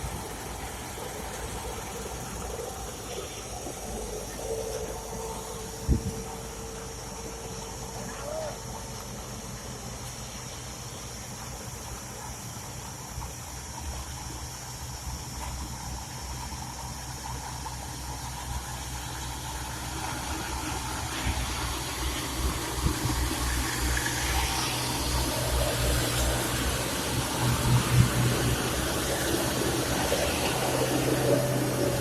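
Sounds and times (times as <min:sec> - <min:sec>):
construction machinery engine humming: 0:00.0 - 0:32.0.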